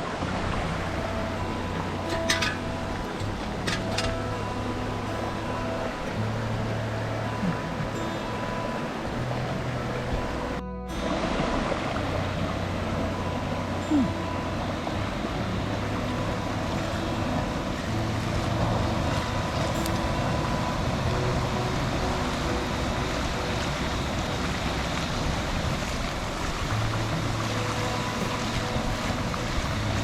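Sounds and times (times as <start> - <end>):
low hum: 0.0 - 30.0
rushing stream water: 0.0 - 30.0.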